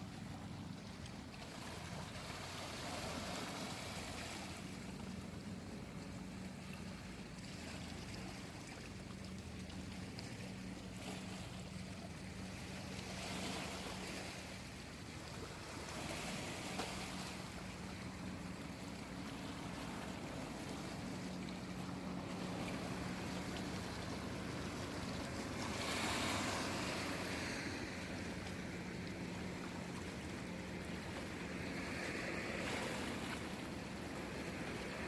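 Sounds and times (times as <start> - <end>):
steady low hum: 0.0 - 35.0
waves washing in: 0.0 - 35.0.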